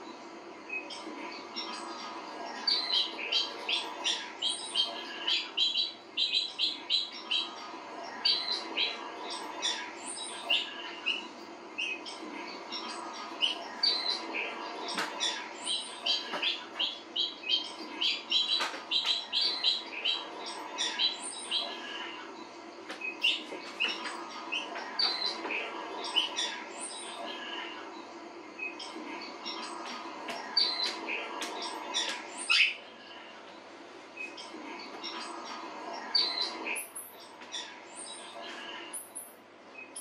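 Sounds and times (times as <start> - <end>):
bird chirping through television: 0.0 - 40.0
steady low hum: 0.0 - 40.0.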